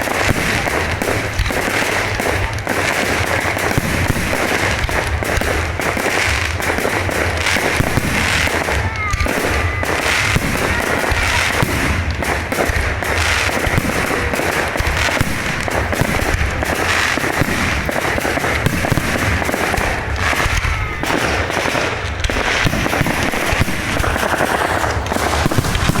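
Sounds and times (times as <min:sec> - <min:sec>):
rapid crackling and popping: 0:00.0 - 0:26.0.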